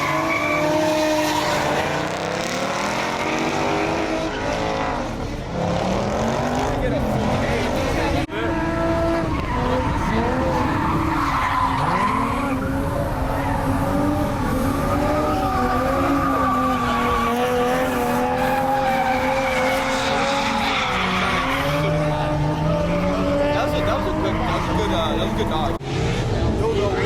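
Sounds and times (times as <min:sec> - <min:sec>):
car engines at high revs: 0:00.0 - 0:27.0.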